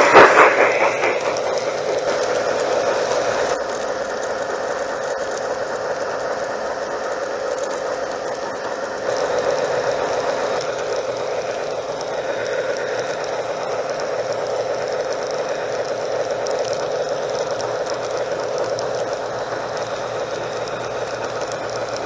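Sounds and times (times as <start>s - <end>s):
model train wheels rattling on rail: 0.0s - 22.0s.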